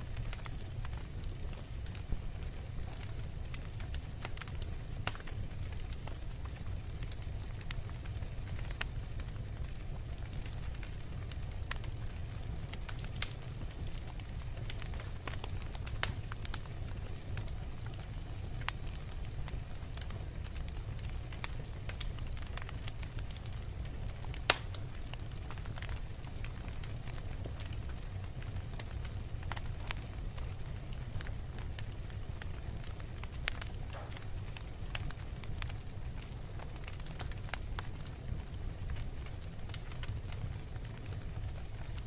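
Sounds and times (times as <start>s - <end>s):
fire crackles and pops: 0.0s - 42.0s
fire flames rumbling: 0.0s - 42.0s.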